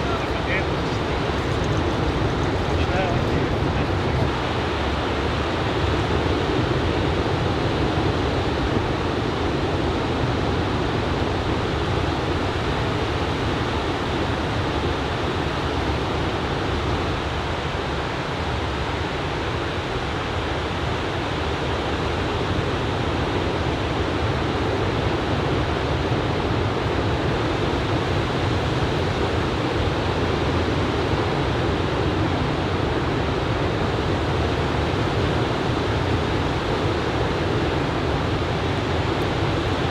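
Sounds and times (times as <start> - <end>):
ocean surf rushing: 0.0 - 19.6, 24.0 - 39.9.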